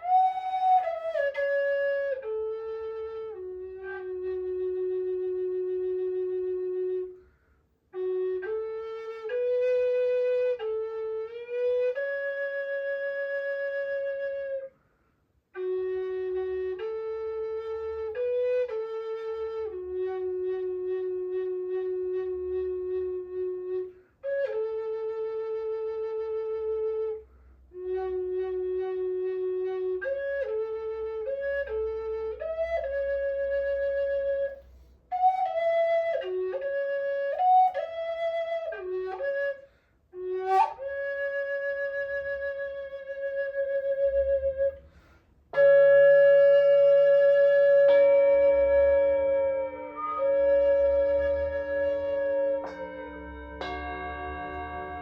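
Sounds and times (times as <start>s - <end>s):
solo flute melody: 0.0s - 55.0s.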